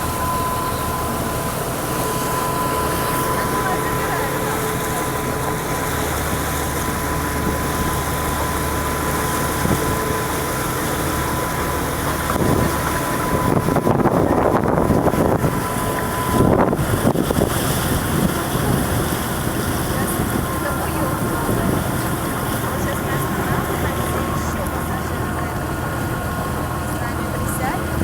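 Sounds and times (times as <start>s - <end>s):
motorboat engine running: 0.0s - 28.0s
wind buffeting microphone: 0.0s - 28.0s.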